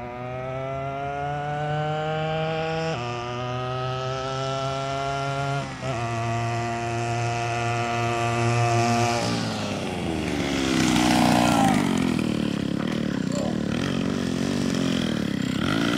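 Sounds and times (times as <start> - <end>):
two-stroke engine running: 0.1 - 15.9.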